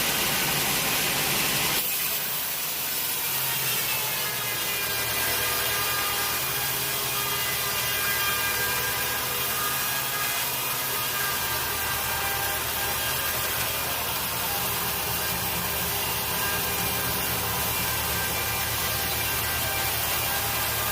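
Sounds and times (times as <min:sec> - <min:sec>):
saw cutting log: 0:00.0 - 0:20.9.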